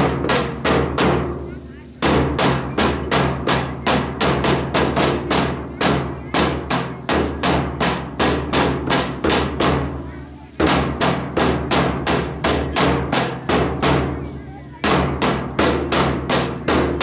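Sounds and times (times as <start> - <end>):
sharp percussive strikes: 0.0 - 17.0.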